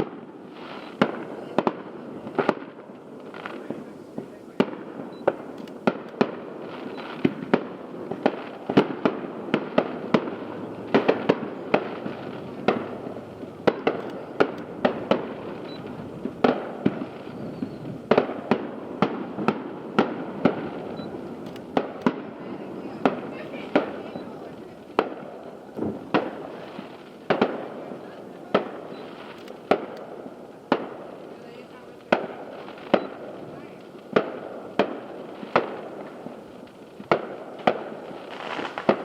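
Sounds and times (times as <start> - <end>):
background hiss: 0.0 - 39.0
distant fireworks bangs: 0.0 - 39.0.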